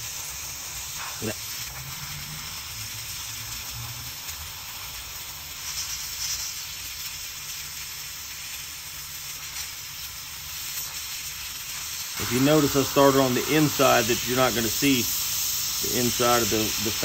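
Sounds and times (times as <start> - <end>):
hot air gun hissing: 0.0 - 17.0.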